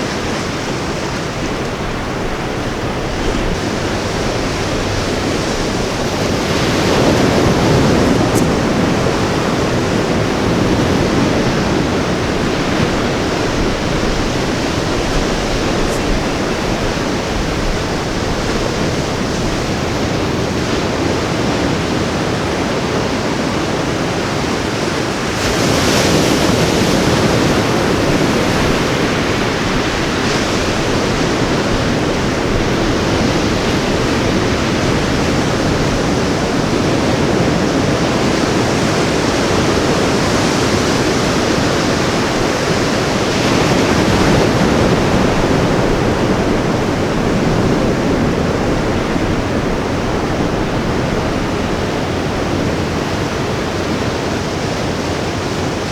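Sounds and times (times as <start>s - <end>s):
ocean surf on beach: 0.0s - 55.9s.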